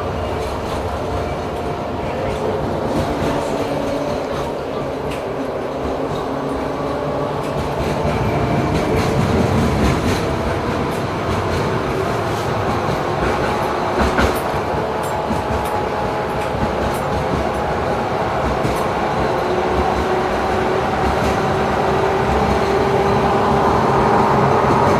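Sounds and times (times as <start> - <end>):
tram rumbling: 0.0 - 24.9.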